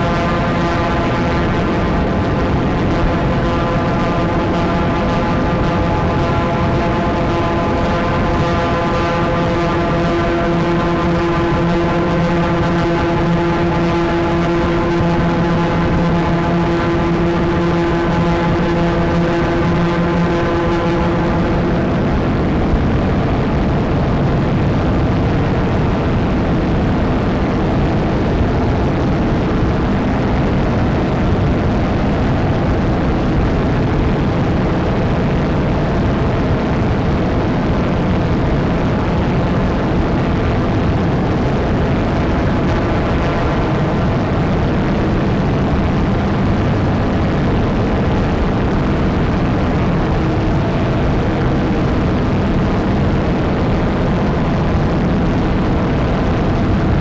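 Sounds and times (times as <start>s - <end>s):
dense distorted drone: 0.0s - 57.0s
faint steady tones: 0.0s - 57.0s.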